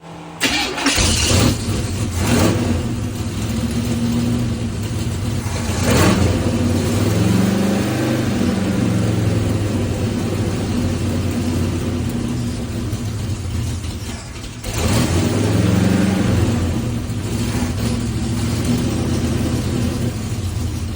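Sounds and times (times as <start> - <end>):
engine revving: 0.4 - 20.9.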